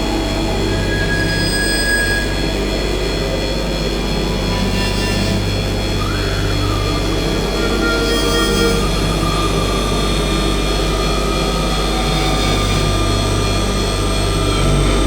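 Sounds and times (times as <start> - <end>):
dark ambient synth drone: 0.0 - 15.0.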